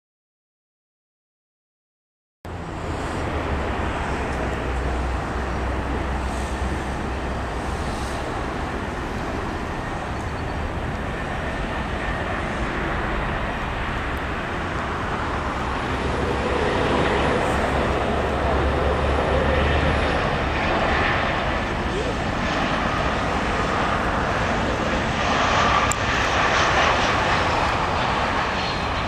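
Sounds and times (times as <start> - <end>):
jet engines roaring: 2.5 - 29.0.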